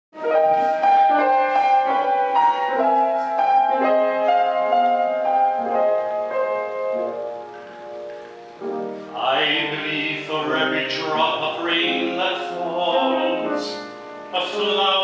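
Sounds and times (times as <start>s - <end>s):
piano notes and chords: 0.1s - 15.0s.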